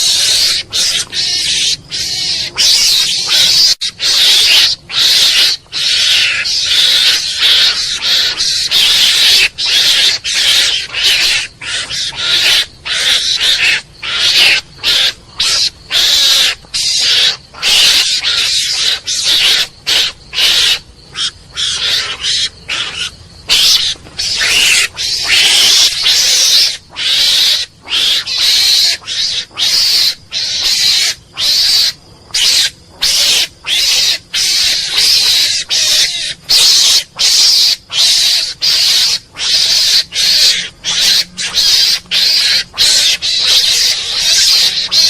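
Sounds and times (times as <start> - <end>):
mongoose hissing calls: 0.0 - 45.0.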